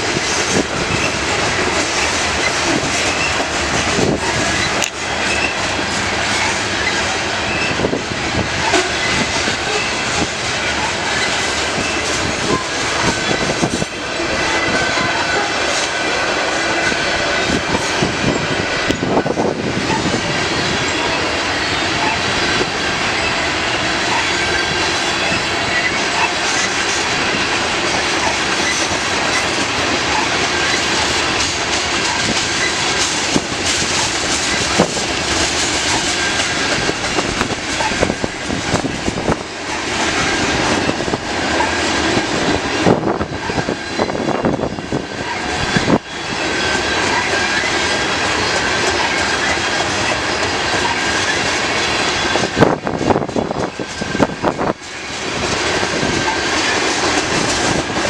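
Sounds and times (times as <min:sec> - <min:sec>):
train clanks and knocks: 0:00.0 - 0:58.0
train wheels rumbling on rails: 0:00.0 - 0:58.0.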